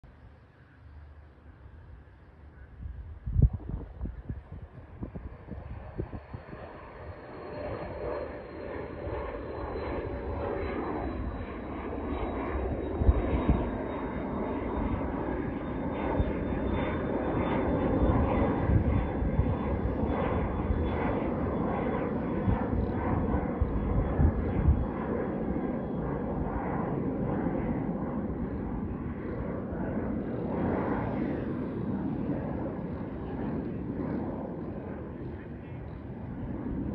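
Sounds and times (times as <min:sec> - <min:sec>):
jet engine roar with whine: 0:00.1 - 0:36.9.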